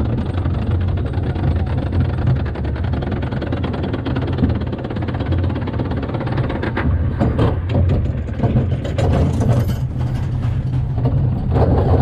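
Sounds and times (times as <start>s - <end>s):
coaster wheels rumbling: 0.0s - 12.0s
rattling knocks and clatter: 0.0s - 12.0s.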